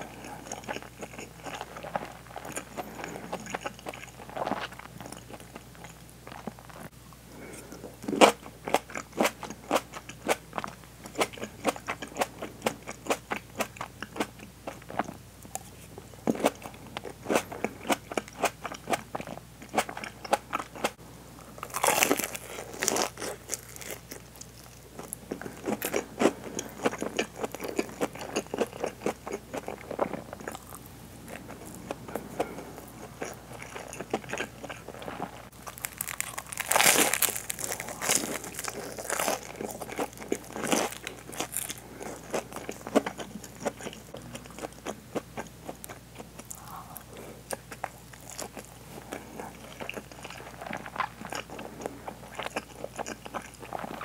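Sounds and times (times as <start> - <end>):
crunchy chewing of fried food: 0.0 - 54.0.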